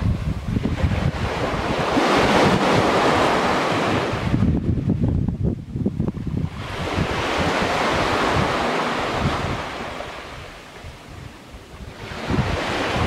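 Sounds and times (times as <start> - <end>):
waves breaking on beach: 0.0 - 5.0, 6.0 - 13.0
wind rumbling on microphone: 0.0 - 13.0.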